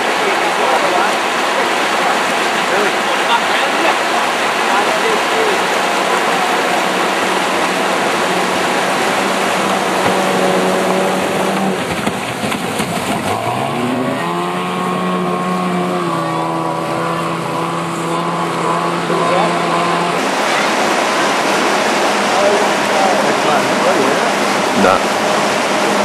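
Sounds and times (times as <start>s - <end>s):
outboard motor running hard: 0.0s - 26.0s
rapids rushing: 0.0s - 26.0s.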